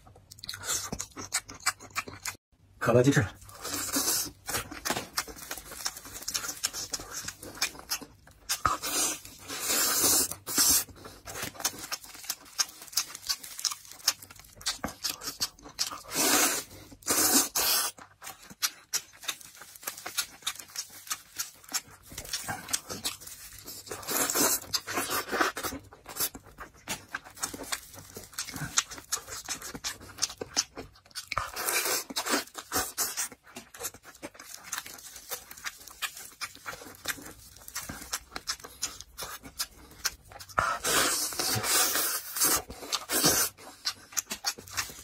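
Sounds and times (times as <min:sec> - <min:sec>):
wet chewing and lip-smacking: 0:00.0 - 0:02.4, 0:03.4 - 0:45.0.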